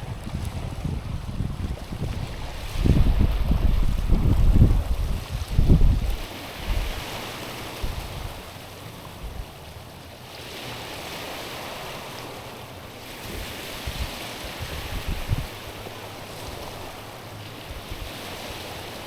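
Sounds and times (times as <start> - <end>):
wind rumbling on microphone: 0.0 - 9.6, 10.4 - 19.0
small waves washing over pebbles: 0.0 - 19.0.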